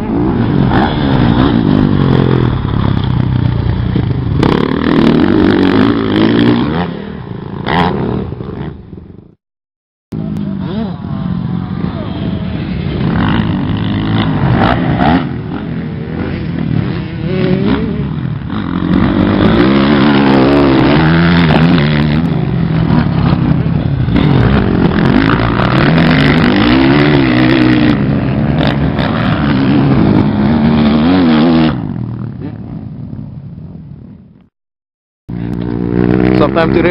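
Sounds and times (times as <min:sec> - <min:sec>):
dirt bike engine revving: 0:00.0 - 0:09.0, 0:10.2 - 0:32.8, 0:35.3 - 0:36.9.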